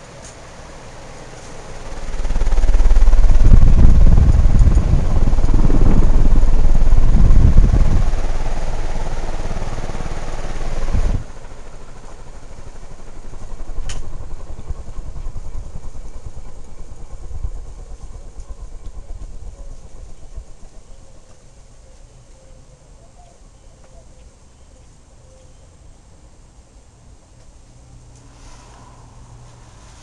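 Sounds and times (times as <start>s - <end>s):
ceiling fan running: 0.0s - 30.0s.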